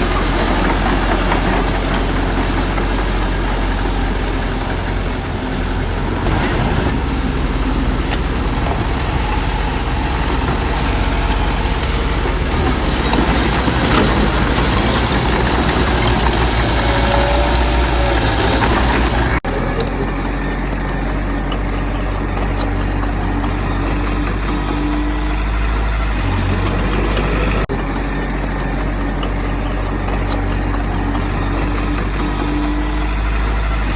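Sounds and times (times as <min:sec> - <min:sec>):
heavy diesel engines rumbling: 0:00.0 - 0:33.9.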